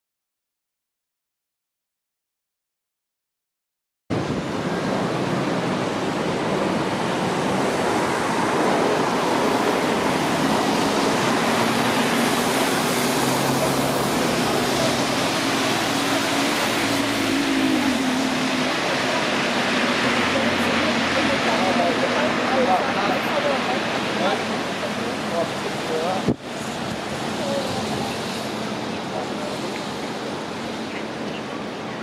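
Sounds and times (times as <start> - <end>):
outdoor rushing noise: 4.1 - 32.0.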